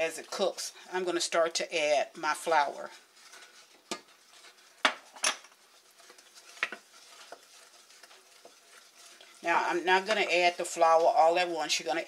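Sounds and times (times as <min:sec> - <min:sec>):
wooden spoon stirring in saucepan: 0:00.0 - 0:12.0.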